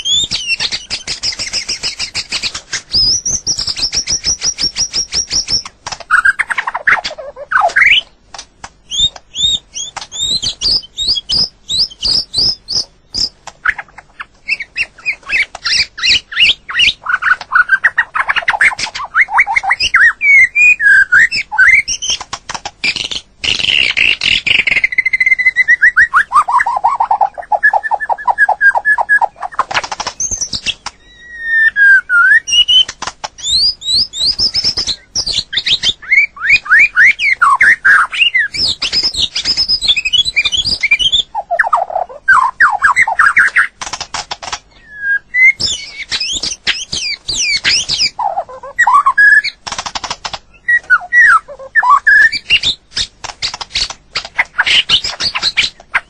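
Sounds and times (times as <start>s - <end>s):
songbird singing trills: 0.0s - 8.2s, 8.8s - 22.2s, 22.8s - 43.8s, 44.7s - 49.6s, 50.5s - 56.0s.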